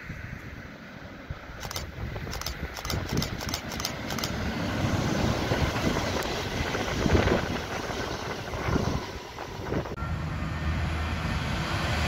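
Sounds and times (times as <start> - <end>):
train passing: 0.0 - 12.0.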